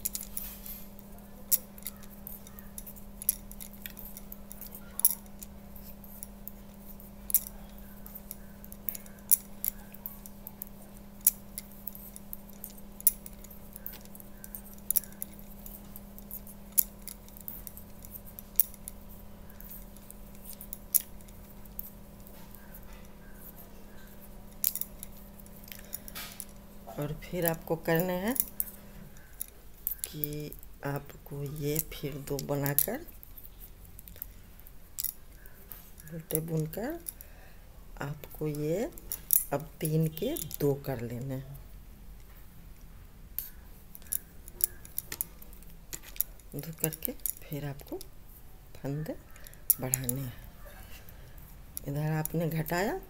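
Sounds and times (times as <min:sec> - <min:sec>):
knitting needles clicking: 0:00.0 - 0:37.4, 0:38.0 - 0:41.4, 0:43.4 - 0:48.2, 0:48.8 - 0:53.0
steady low hum: 0:00.0 - 0:53.0.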